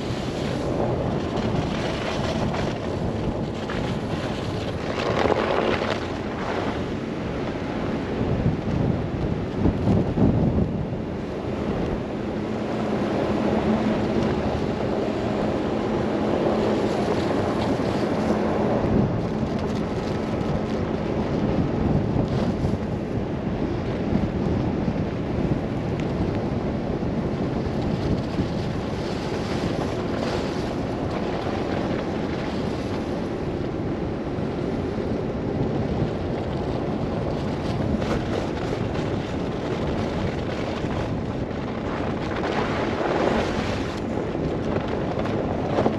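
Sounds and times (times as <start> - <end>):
blizzard wind gusting around car: 0.0 - 45.9.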